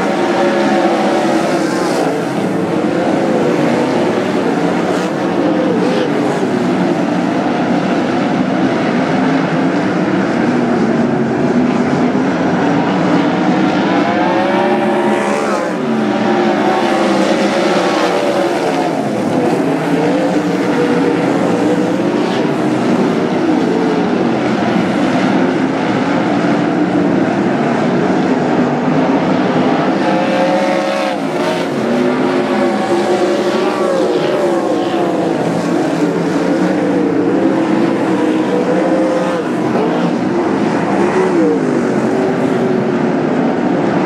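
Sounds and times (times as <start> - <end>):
race car engines at full throttle: 0.0 - 44.0.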